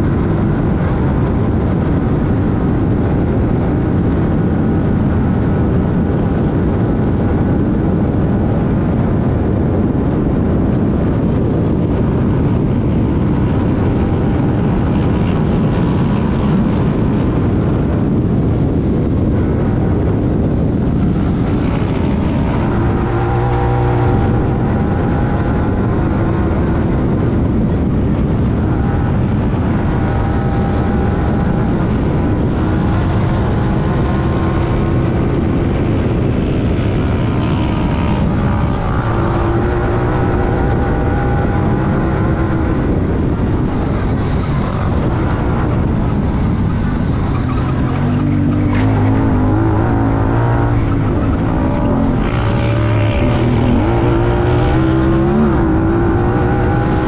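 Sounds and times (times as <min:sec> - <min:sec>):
engine running hard: 0:00.0 - 0:57.0
wind and driving noise: 0:00.0 - 0:57.0.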